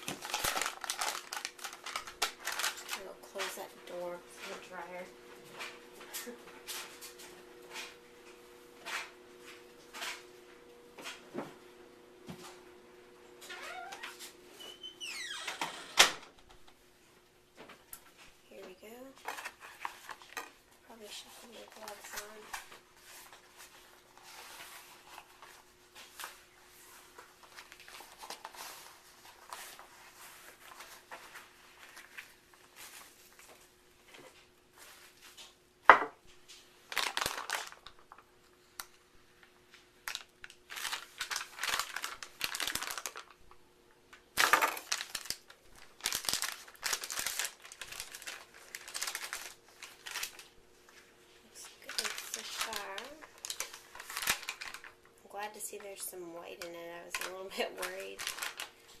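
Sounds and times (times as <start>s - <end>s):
gloves crinkling and rustling: 0.0s - 11.3s, 17.5s - 59.0s
faint steady hum: 0.0s - 59.0s.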